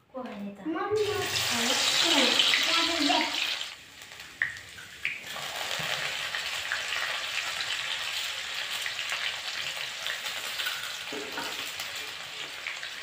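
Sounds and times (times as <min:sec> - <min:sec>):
onions sizzling in hot oil: 0:01.0 - 0:13.0.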